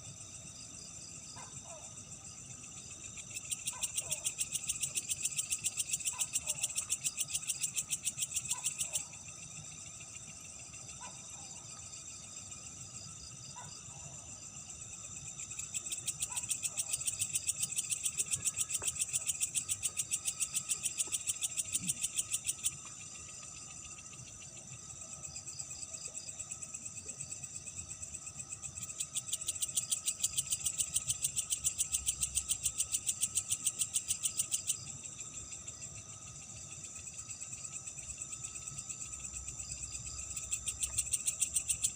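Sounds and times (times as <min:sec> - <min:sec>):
insect chorus: 0:00.0 - 0:41.9
insect pulsing trill: 0:00.0 - 0:41.9.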